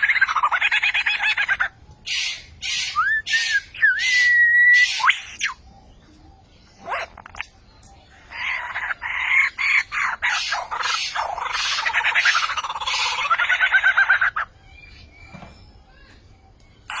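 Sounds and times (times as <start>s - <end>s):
bird harsh calls: 0.0s - 5.8s, 6.6s - 16.2s, 16.8s - 17.0s.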